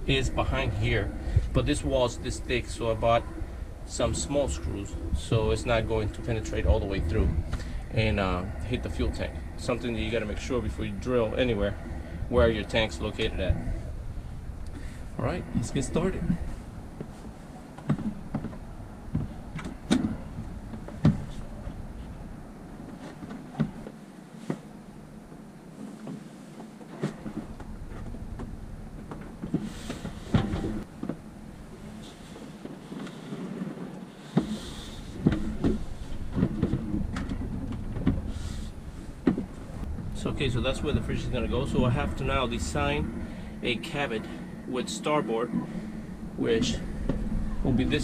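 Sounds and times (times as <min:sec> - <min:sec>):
low steady rumble: 0:00.0 - 0:48.0.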